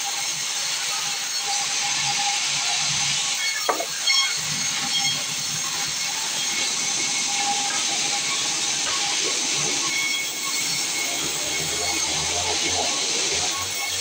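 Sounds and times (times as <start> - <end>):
sawmill machinery hissing: 0.0 - 14.0.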